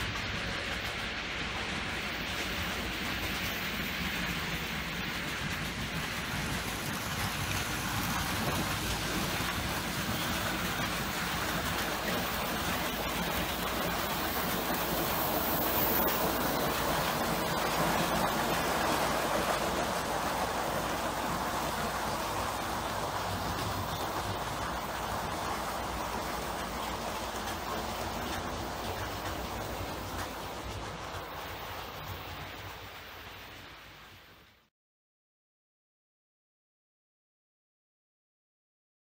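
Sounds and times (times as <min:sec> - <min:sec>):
model trains running on track: 0:00.0 - 0:34.7.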